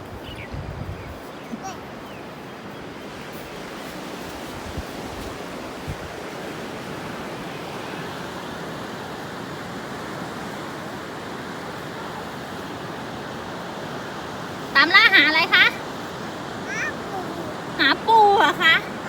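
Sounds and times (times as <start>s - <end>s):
surf breaking on beach: 3.0s - 19.0s.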